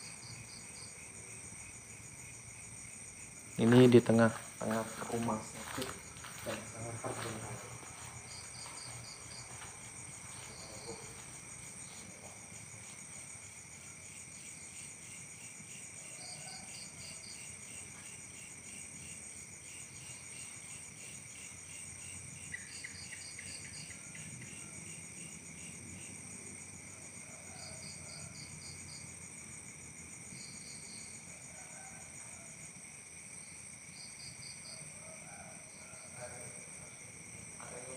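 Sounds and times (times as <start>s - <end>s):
crickets and insects chirping: 0.0s - 37.9s.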